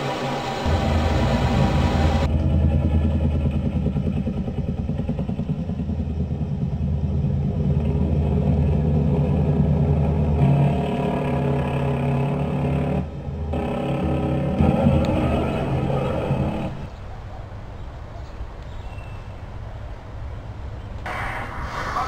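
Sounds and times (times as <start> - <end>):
aircraft engines droning: 0.0 - 22.0.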